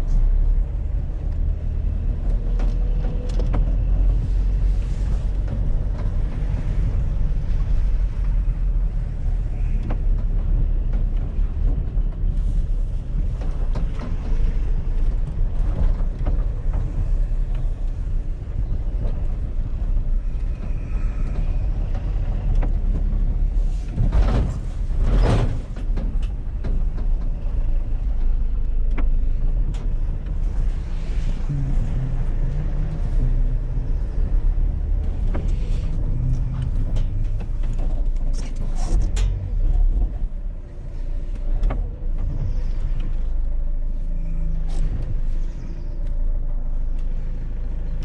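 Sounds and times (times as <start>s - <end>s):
van engine and road rumble: 0.0s - 48.0s
rattles and knocks: 1.2s - 43.9s.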